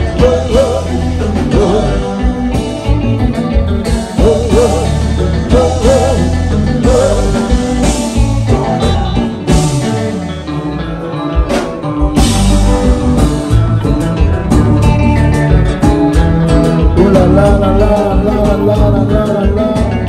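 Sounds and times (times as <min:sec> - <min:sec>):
electric guitar lead: 0:00.0 - 0:20.0
live band playing: 0:00.0 - 0:20.0.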